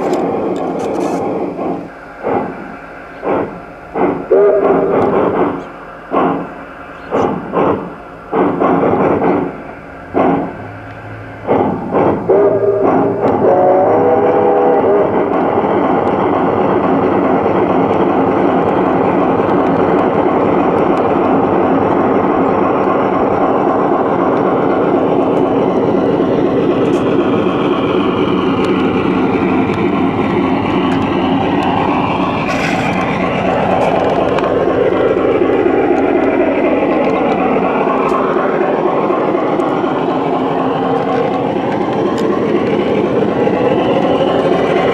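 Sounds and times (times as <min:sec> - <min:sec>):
train wheels rattling on rail: 0:00.0 - 0:44.9.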